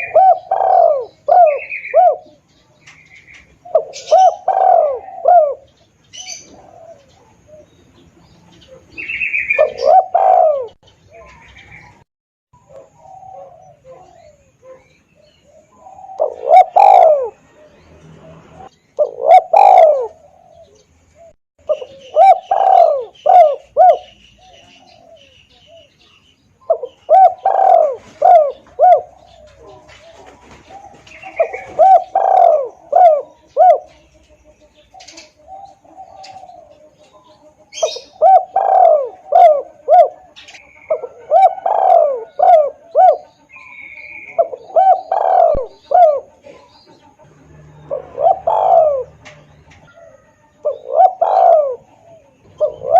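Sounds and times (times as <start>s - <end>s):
dove cooing: 0.0s - 12.0s, 12.6s - 26.0s, 26.6s - 52.9s.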